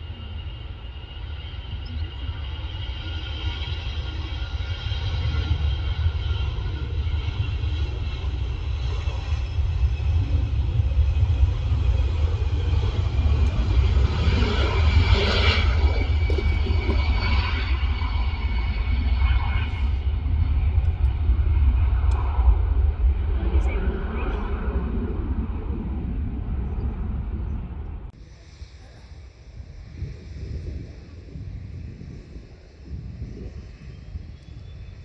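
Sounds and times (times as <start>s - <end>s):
jet engines roaring with whine: 0.0s - 35.0s.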